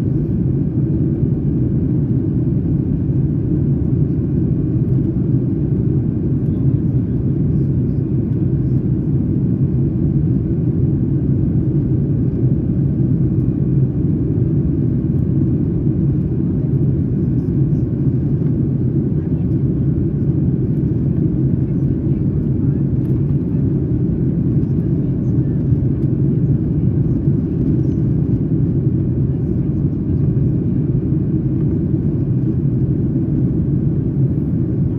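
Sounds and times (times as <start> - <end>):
jet engine rumble in cabin: 0.0 - 34.9.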